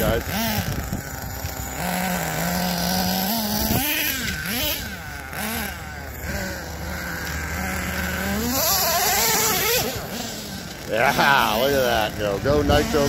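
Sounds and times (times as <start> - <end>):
rc truck engine revving: 0.0 - 13.0.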